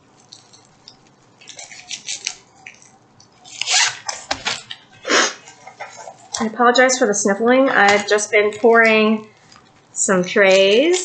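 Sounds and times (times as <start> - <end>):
plastic packaging crinkling: 0.0 - 7.1, 7.7 - 11.0.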